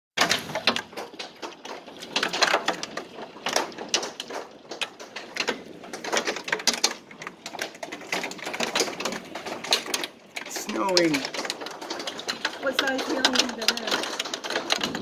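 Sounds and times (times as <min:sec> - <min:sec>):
hail clattering on concrete: 0:00.2 - 0:15.0.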